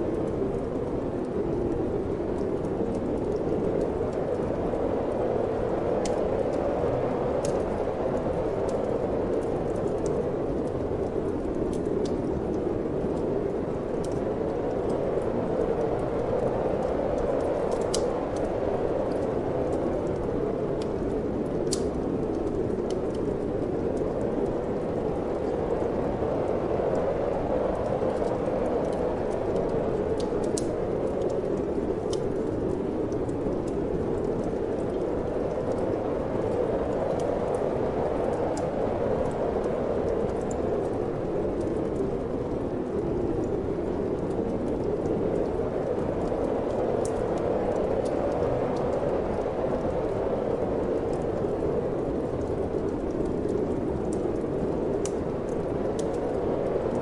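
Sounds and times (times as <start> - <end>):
steady wind blowing: 0.0 - 57.0
wood fire crackling: 0.0 - 57.0.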